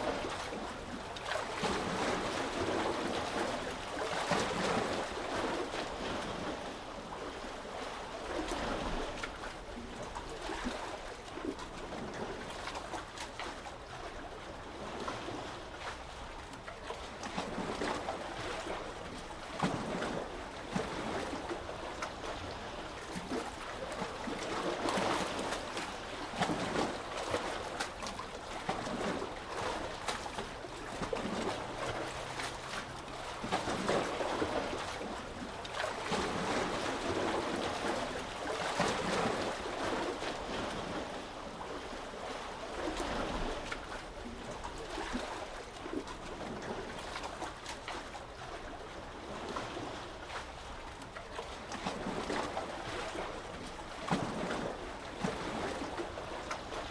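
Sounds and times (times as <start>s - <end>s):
sea waves lapping at shore: 0.0s - 56.9s.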